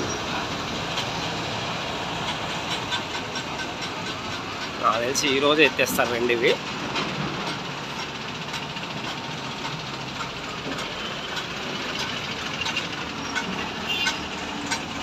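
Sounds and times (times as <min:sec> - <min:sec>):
heavy vehicles and machinery: 0:00.0 - 0:15.0.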